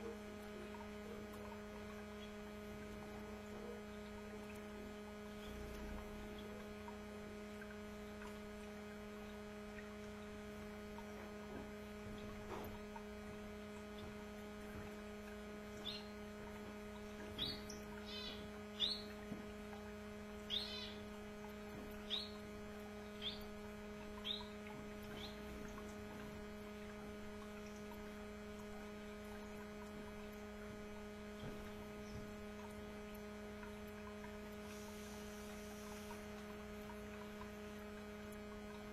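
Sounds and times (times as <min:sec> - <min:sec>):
steady electrical hum: 0:00.0 - 0:38.9.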